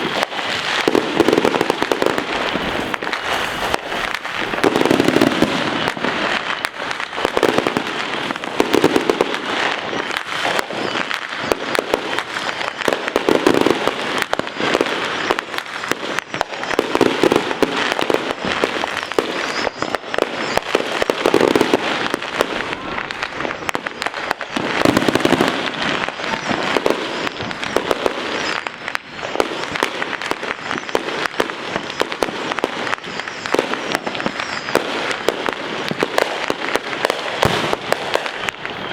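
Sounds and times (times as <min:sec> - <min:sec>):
fireworks and firecrackers popping: 0:00.0 - 0:38.9
loud firework bursts: 0:00.0 - 0:38.9.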